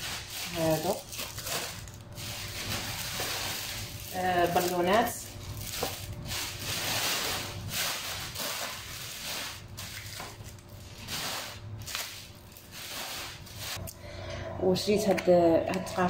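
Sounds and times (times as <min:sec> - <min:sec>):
plastic bag crinkling: 0:00.0 - 0:13.9.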